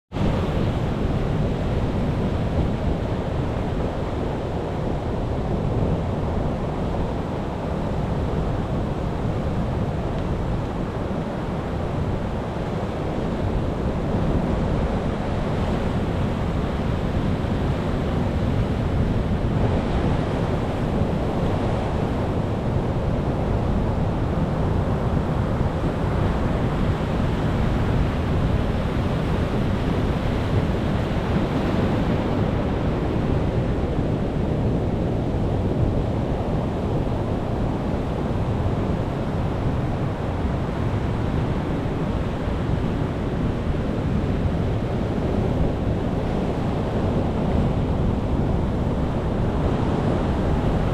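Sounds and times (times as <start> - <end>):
sea waves breaking on shore: 0.1 - 50.9.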